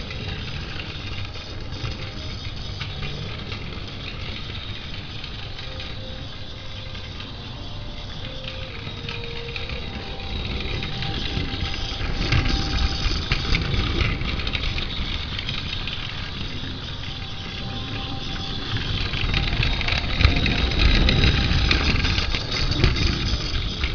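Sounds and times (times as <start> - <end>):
toy train motor whirring: 0.0 - 23.9
wheels rattling over plastic track: 0.0 - 23.9.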